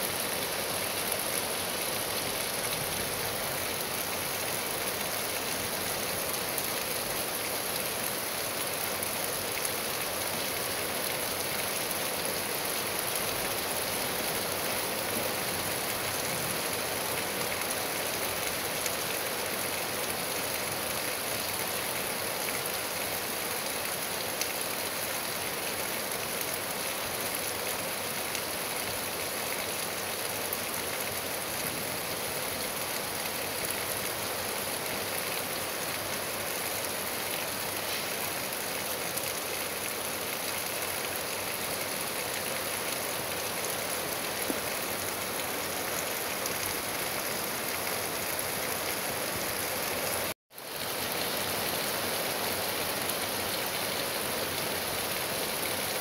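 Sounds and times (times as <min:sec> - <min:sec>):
rain falling on trees: 0:00.0 - 0:56.0.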